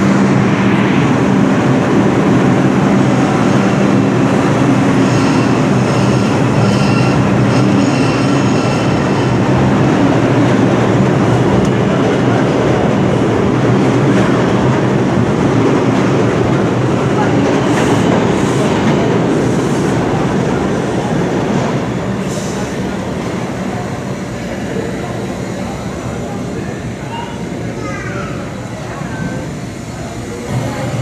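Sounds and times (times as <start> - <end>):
subway wheels rumbling on rail: 0.0 - 31.0.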